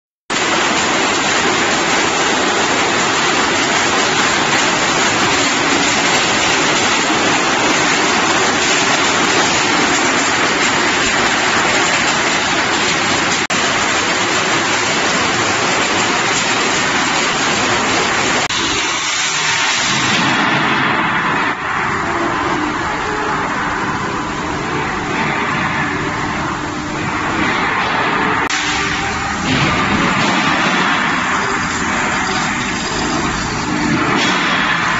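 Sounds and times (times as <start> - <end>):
pipe-making machinery rushing din: 0.3 - 34.9.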